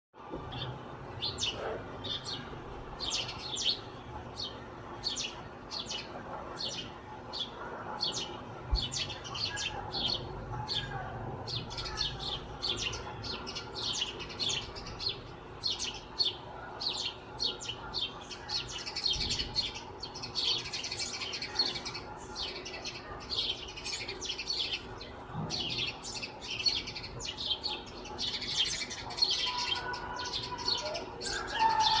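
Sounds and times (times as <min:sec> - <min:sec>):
small birds chirping: 0:00.4 - 0:32.0.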